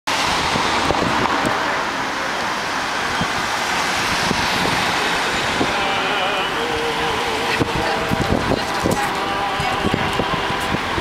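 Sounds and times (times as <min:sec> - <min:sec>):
cars driving past: 0:00.1 - 0:11.0
wind rumbling on microphone: 0:00.1 - 0:11.0.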